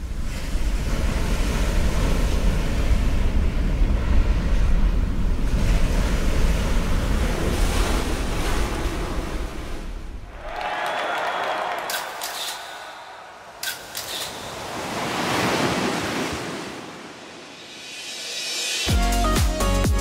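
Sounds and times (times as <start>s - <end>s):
ocean waves breaking: 0.0s - 18.9s.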